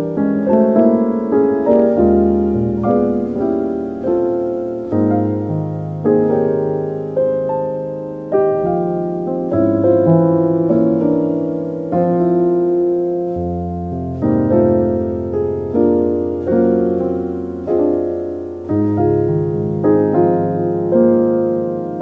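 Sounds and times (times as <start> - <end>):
slow soft piano music: 0.0 - 22.0.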